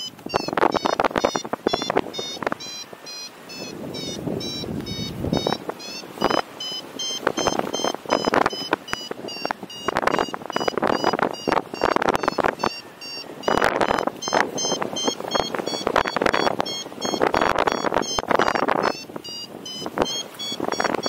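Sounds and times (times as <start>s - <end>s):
variometer beeping: 0.0s - 21.0s
wind buffeting microphone: 0.0s - 21.0s.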